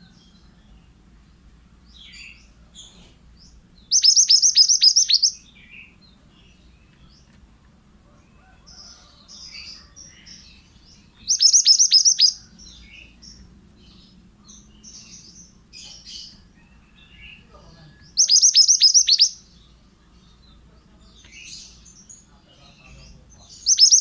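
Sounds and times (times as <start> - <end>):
bird singing downward-sweeping notes: 0.0 - 7.2, 9.5 - 24.0
faint bird chirps: 1.9 - 7.4, 8.1 - 24.0.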